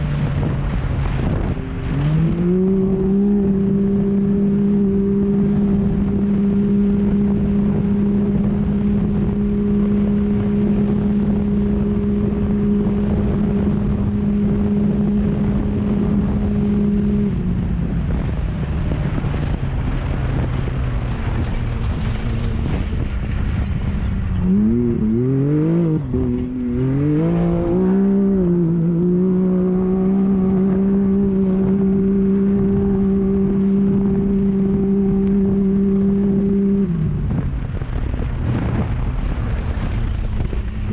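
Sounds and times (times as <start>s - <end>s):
terrain and wind noise: 0.0s - 40.9s.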